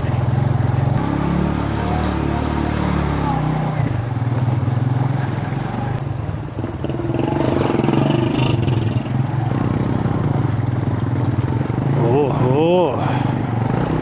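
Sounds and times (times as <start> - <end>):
motorcycle engine at low revs: 0.1 - 14.0.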